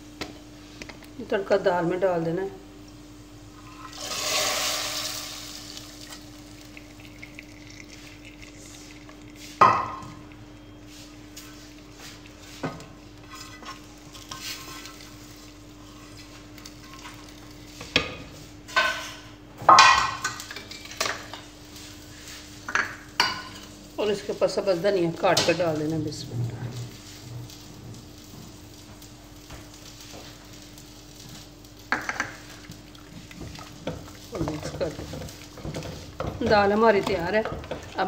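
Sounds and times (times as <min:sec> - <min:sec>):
faint steady hum: 0:00.0 - 0:38.0
hot oil sizzling in liquid: 0:02.3 - 0:38.0.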